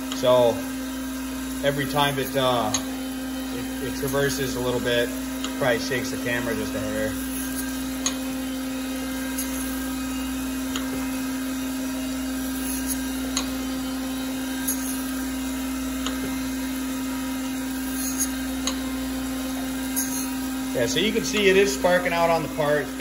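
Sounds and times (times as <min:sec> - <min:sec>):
coolant hiss: 0:00.0 - 0:23.0
grinder spindle hum: 0:00.0 - 0:23.0.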